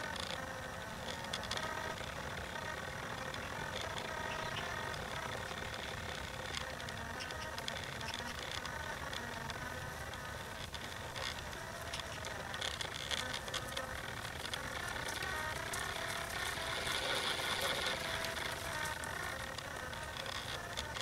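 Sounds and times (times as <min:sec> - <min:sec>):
horse cart rattling: 0:00.0 - 0:21.0.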